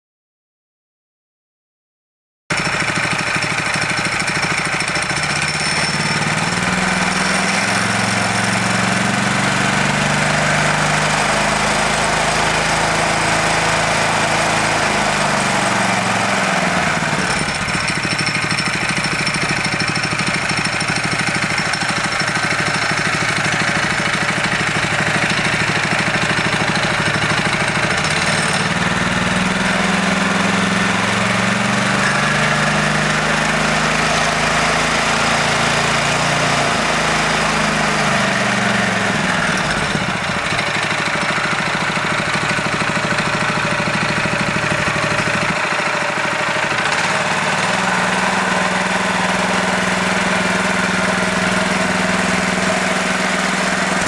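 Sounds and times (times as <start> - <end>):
small petrol engine revving: 2.8 - 54.0.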